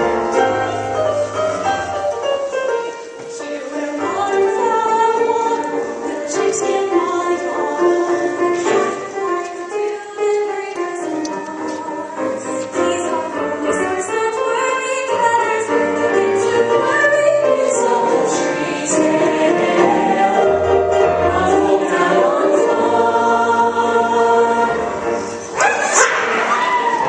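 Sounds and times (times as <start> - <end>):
ensemble singing musical number: 0.0 - 27.0
instrumental accompaniment: 0.0 - 27.0.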